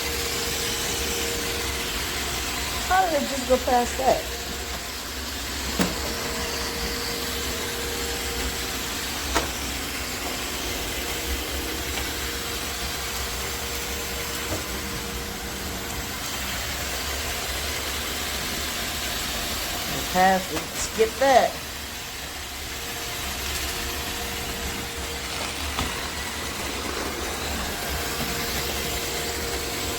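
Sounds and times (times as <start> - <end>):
robot vacuum whirring: 0.0 - 29.9.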